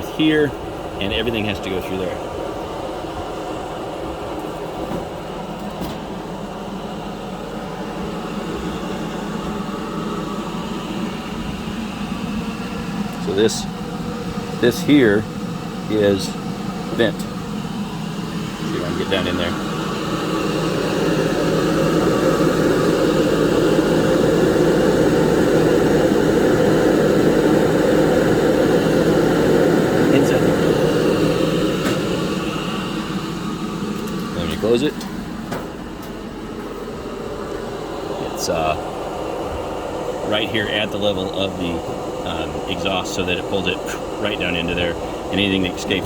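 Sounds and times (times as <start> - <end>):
exhaust fan rushing air: 0.0 - 46.0.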